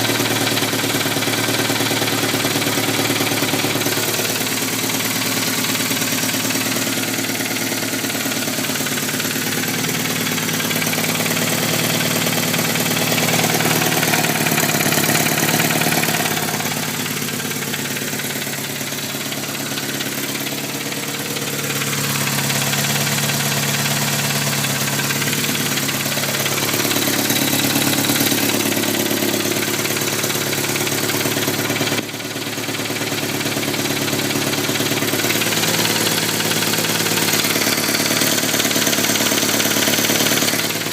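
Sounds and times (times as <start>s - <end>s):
car engine idling: 0.0s - 40.9s
engine ticking: 0.0s - 40.9s.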